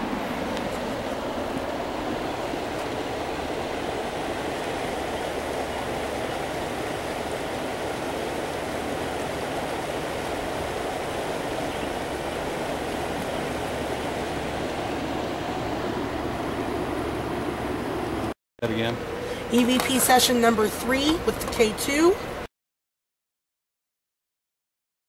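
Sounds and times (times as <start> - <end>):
creek water rushing over dam: 0.0 - 22.5.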